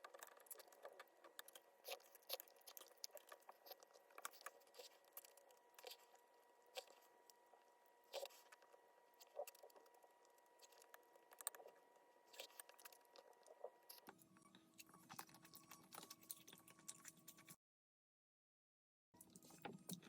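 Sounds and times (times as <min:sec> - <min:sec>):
chewing clicks and smacks: 0:00.0 - 0:14.2, 0:14.8 - 0:17.6, 0:19.2 - 0:20.0.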